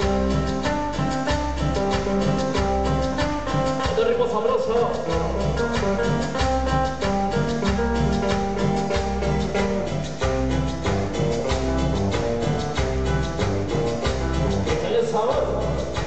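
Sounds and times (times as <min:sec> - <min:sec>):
dance music over sound system: 0:00.0 - 0:16.0.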